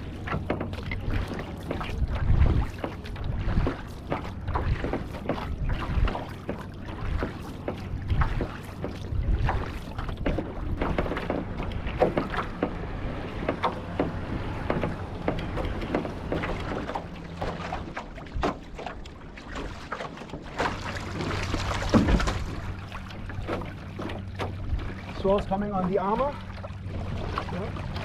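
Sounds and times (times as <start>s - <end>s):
paddle-stroke splashes: 0.0s - 28.0s
water splashing and rushing: 0.0s - 28.0s.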